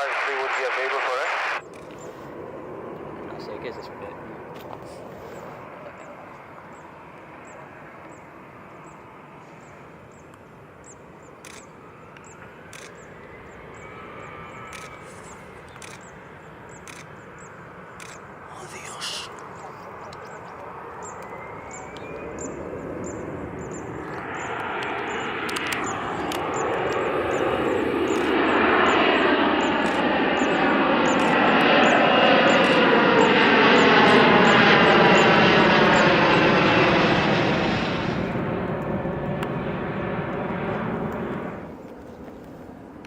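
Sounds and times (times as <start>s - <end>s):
jet passing low overhead: 0.0s - 43.0s.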